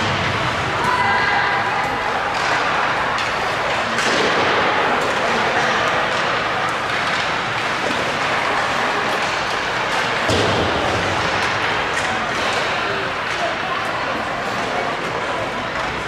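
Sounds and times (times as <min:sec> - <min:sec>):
spectator chatter in a hall: 0:00.0 - 0:16.0.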